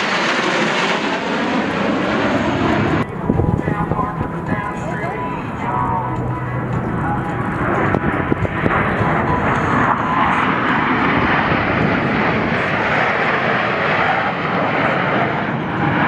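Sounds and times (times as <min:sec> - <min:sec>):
fighter jets flying past: 0:00.0 - 0:16.0.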